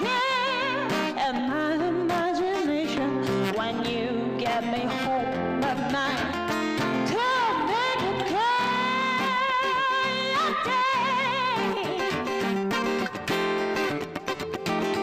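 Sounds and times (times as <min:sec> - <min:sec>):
woman singing soul song: 0:00.0 - 0:12.2
guitar accompaniment: 0:00.0 - 0:15.0.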